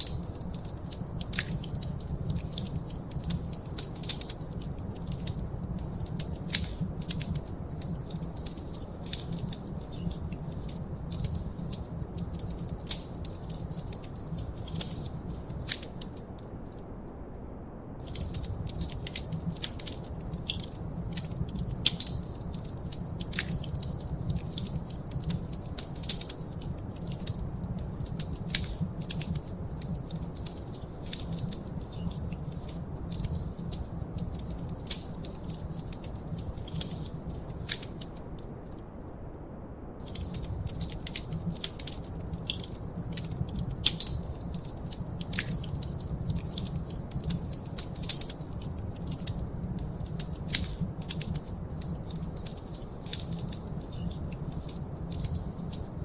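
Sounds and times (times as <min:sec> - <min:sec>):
wood fire crackling: 0:00.0 - 0:17.3, 0:18.0 - 0:39.4, 0:40.0 - 0:56.0
low rumble of flames: 0:00.0 - 0:56.0.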